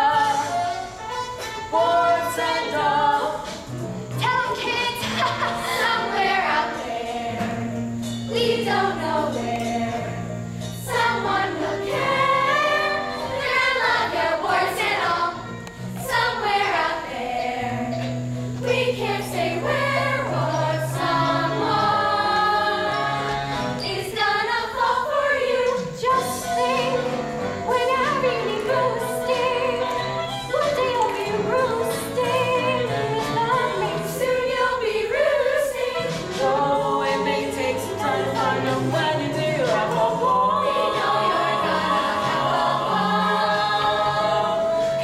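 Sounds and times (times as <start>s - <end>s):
chorus singing: 0.0s - 45.0s.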